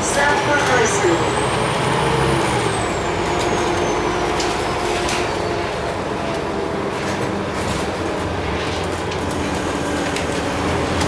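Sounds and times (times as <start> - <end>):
bus engine and road noise: 0.0 - 11.0.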